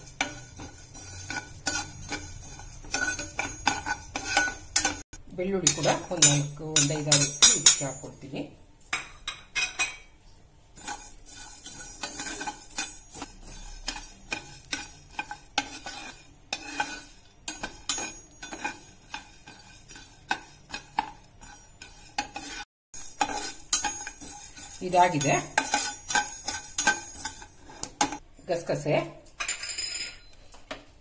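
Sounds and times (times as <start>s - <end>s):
spatula scraping pan: 0.0s - 8.2s, 10.8s - 28.2s.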